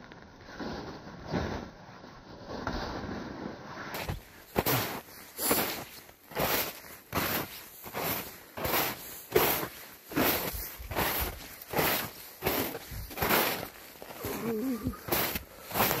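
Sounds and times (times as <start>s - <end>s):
footsteps crunching through snow: 0.5s - 16.0s.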